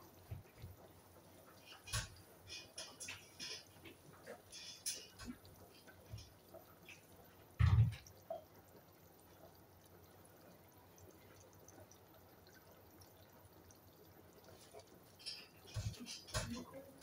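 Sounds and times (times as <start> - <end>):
pot simmering with soft pops: 0.0 - 17.0.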